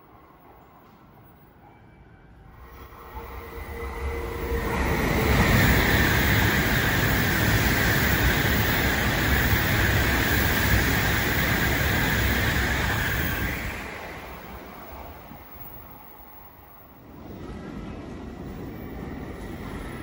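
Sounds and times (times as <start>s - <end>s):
high-speed train passing: 0.0s - 20.0s.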